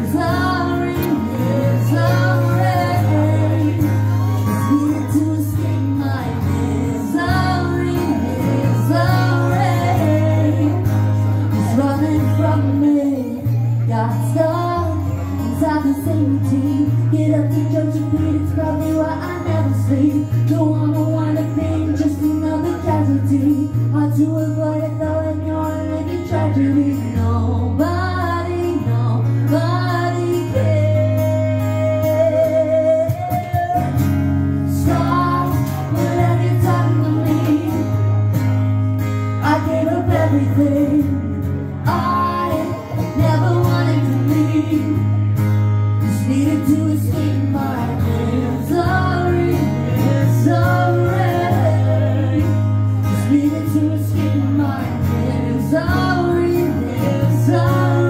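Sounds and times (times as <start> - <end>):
woman singing: 0.0 - 38.5, 39.3 - 45.4, 46.0 - 58.0
guitar accompaniment: 0.0 - 58.0.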